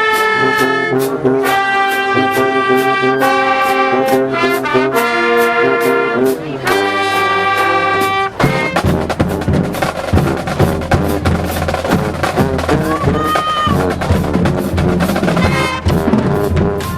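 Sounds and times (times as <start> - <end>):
brass chords: 0.0 - 16.9
marching drum beat: 1.2 - 16.9.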